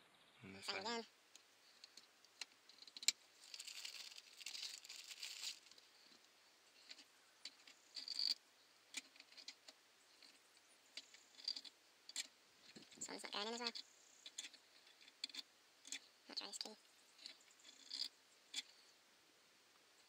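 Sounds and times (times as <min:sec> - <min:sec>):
small ticks: 0:01.3 - 0:19.0.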